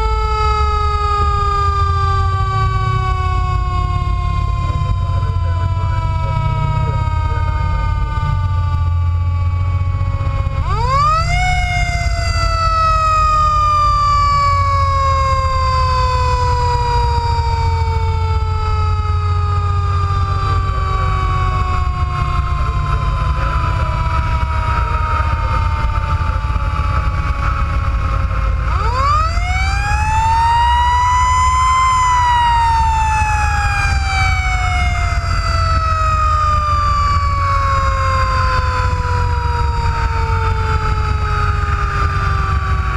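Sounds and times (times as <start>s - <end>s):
fire engine siren wailing: 0.0s - 42.9s
road noise: 0.0s - 42.9s
truck engine drone: 0.0s - 42.9s.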